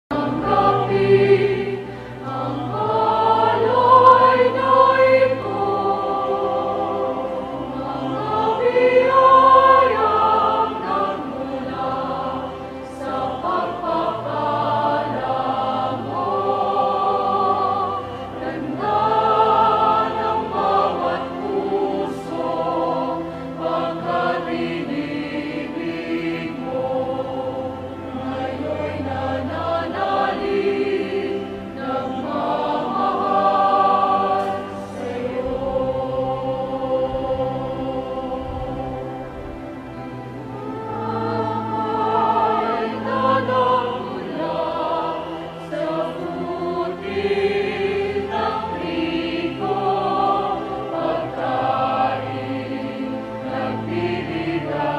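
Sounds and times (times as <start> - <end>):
choir singing held chords: 0.0 - 54.9.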